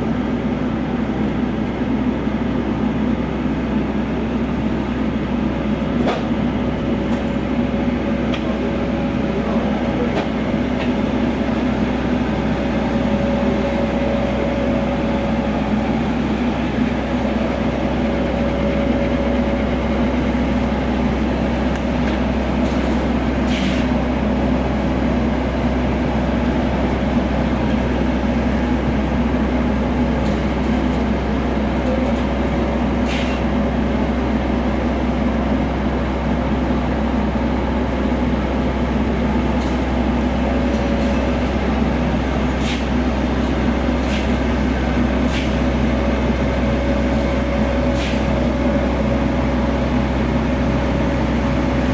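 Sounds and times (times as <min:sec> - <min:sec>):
truck diesel engine running: 0:00.0 - 0:51.9.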